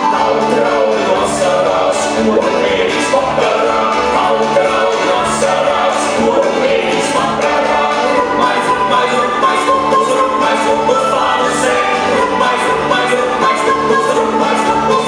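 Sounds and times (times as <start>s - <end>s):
bass line: 0.0s - 15.0s
folk dance music: 0.0s - 15.0s.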